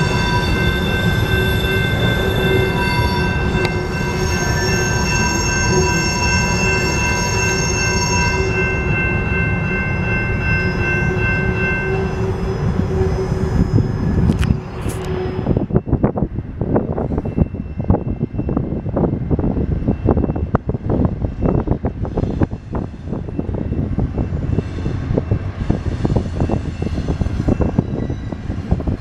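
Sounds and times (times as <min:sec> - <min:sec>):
train wheel squeal: 0:00.0 - 0:16.2, 0:16.8 - 0:19.1, 0:21.2 - 0:29.0
freight train rumble: 0:00.0 - 0:29.0.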